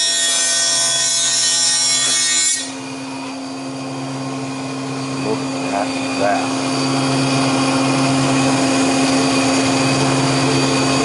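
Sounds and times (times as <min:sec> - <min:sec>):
planer cutting whine: 0:00.0 - 0:11.0.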